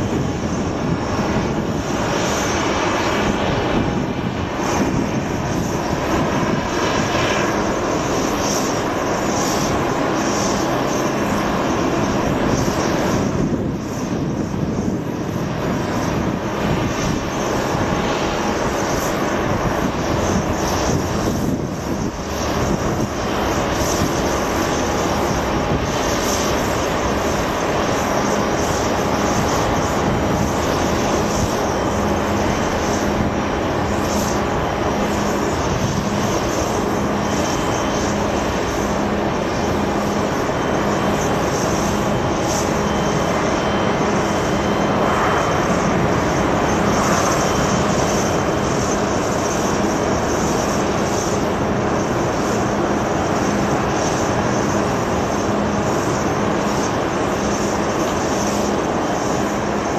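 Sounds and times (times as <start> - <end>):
jet engines whooshing drone: 0.0 - 59.9.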